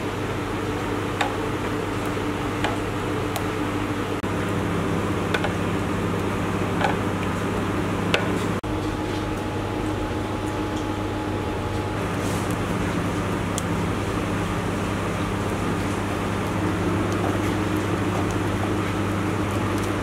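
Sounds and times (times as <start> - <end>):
mechanical hum of kitchen equipment: 0.0 - 20.0.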